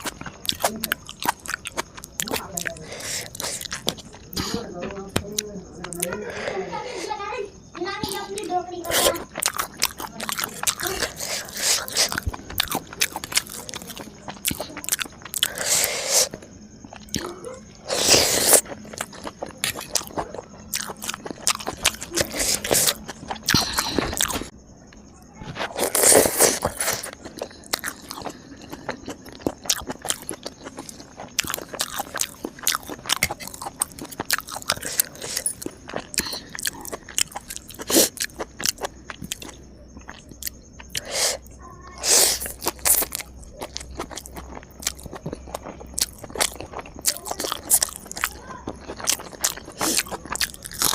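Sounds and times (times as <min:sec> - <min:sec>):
crunchy bites and chewing: 0:00.0 - 0:06.8, 0:07.7 - 0:50.9.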